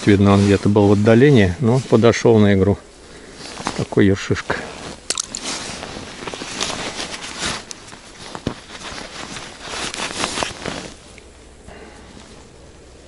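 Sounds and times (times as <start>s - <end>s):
packed snow crunching: 0.0s - 12.6s
winter clothing rustling: 0.0s - 13.0s.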